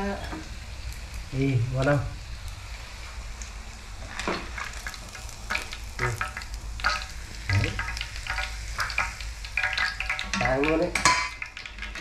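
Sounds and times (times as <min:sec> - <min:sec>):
meat sizzling and popping in oil: 0:00.0 - 0:12.0.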